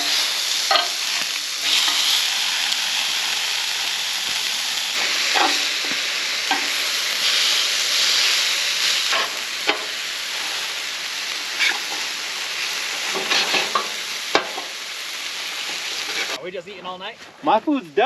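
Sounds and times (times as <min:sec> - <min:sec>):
steaks sizzling: 0:00.0 - 0:16.4.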